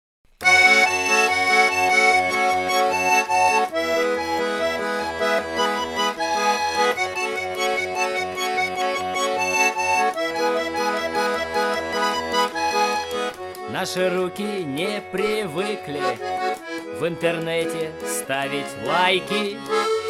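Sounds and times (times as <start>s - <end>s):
button accordion chords: 0.4s - 20.0s.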